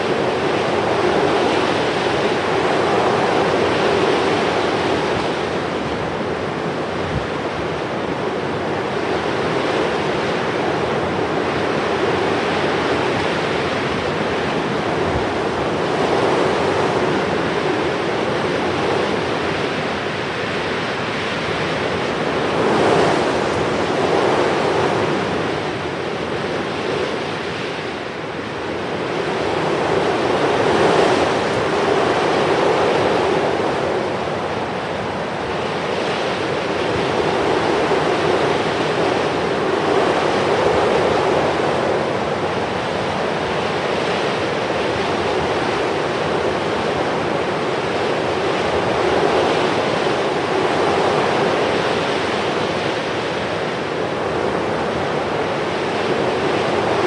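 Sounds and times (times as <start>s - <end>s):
waves rushing: 0.0s - 57.0s.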